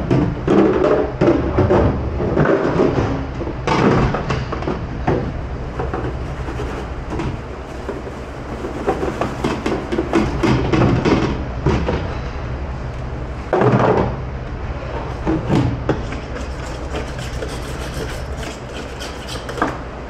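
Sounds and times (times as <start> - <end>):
low hum of kitchen machinery: 0.0 - 20.0.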